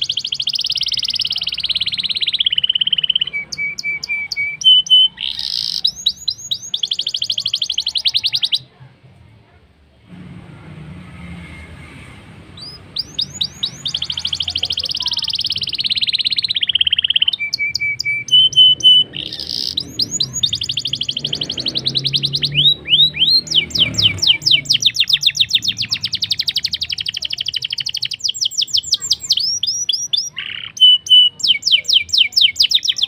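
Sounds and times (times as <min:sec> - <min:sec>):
canary singing: 0:00.0 - 0:08.7, 0:11.2 - 0:33.0.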